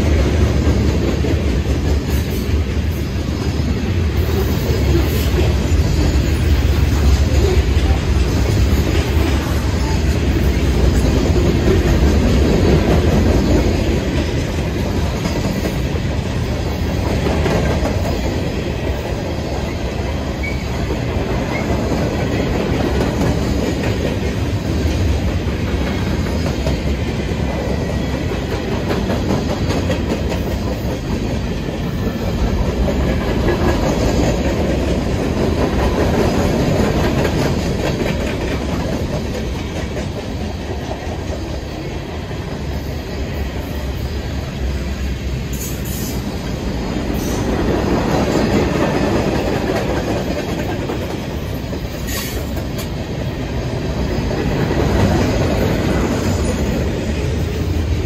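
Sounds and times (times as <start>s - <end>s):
wheels clacking over rail joints: 0.0s - 42.5s, 47.0s - 58.0s
freight train rolling past: 0.0s - 58.0s.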